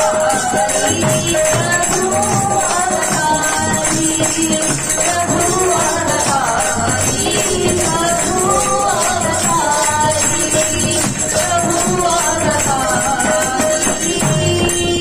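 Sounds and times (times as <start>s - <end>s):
group singing devotional song: 0.0s - 15.0s
metallic jingling percussion: 0.0s - 15.0s.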